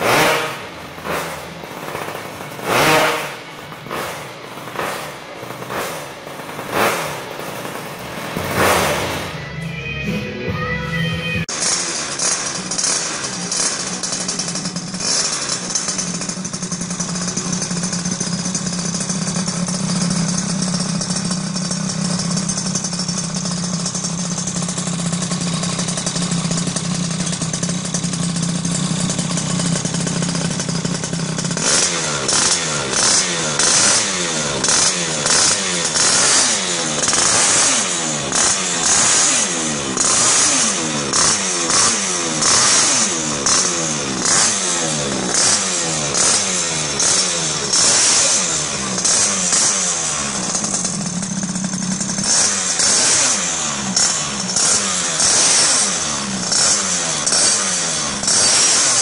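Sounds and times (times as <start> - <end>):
scooter engine idling and revving: 0.0 - 59.0.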